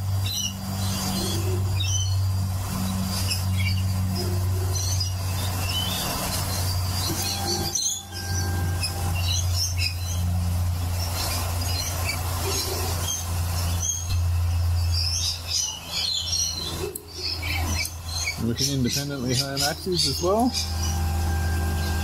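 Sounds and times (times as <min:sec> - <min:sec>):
parrots chirping and squawking: 0:00.0 - 0:22.0
steady low hum: 0:00.0 - 0:22.0.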